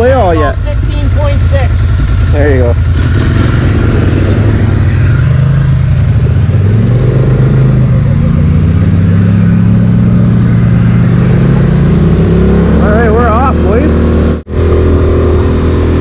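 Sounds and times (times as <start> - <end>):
atv engine accelerating: 0.0 - 16.0.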